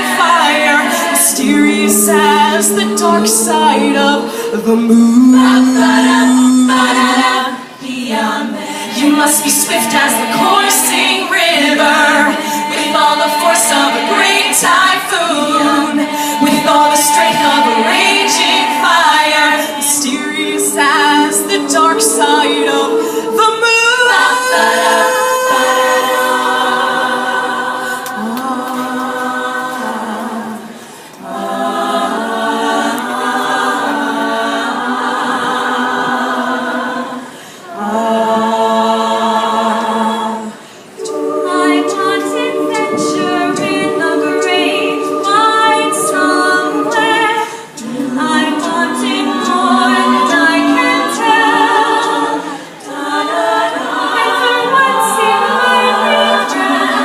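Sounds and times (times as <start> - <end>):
women singing a cappella: 0.0 - 57.0.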